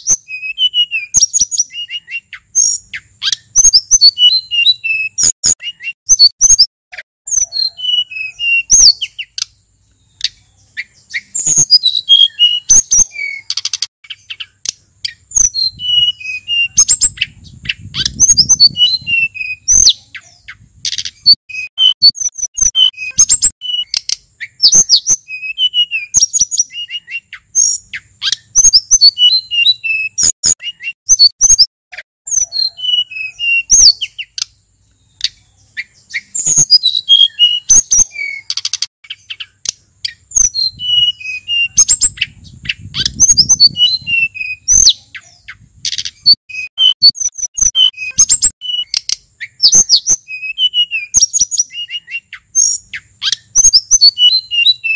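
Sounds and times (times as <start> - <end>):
bird whistling trills: 0.0 - 6.7, 7.3 - 31.7, 32.3 - 54.9.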